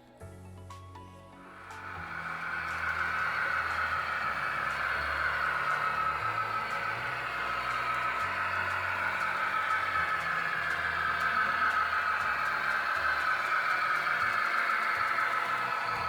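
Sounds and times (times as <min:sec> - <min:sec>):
train running hiss and hum: 0:01.5 - 0:16.0.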